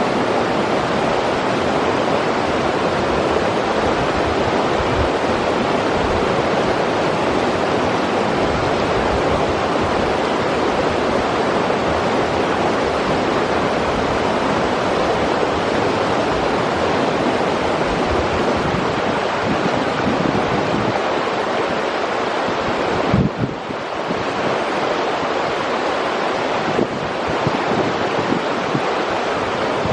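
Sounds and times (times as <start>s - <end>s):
water rushing over rocks: 0.0s - 29.9s.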